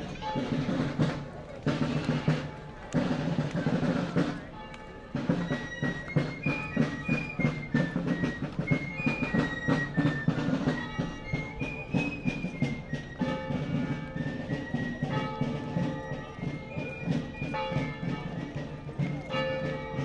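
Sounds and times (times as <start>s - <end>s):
marching band melody: 0.0s - 20.0s
rapid drumming: 0.0s - 20.0s.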